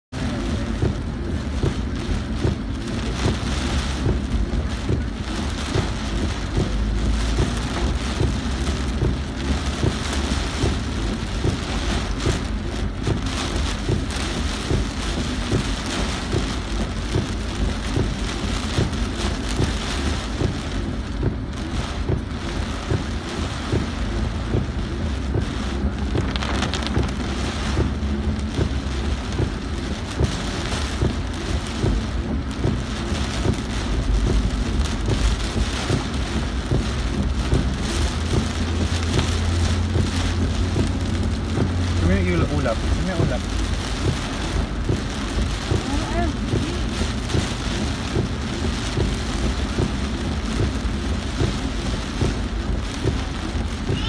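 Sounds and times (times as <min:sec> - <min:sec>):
engine and road noise: 0:00.0 - 0:54.0
heavy rain on car roof: 0:00.0 - 0:54.0.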